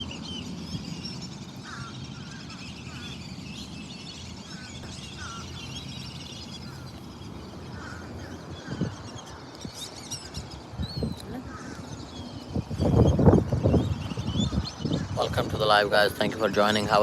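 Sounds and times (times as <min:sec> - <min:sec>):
lower bird calls: 0:00.0 - 0:17.0
small birds chirping: 0:00.0 - 0:17.0.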